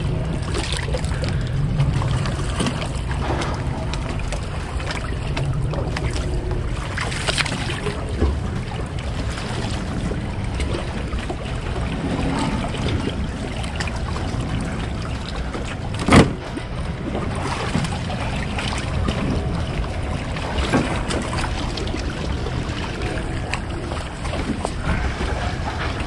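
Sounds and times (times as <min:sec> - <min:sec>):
lapping water: 0:00.0 - 0:26.0
wind noise on microphone: 0:00.0 - 0:26.0.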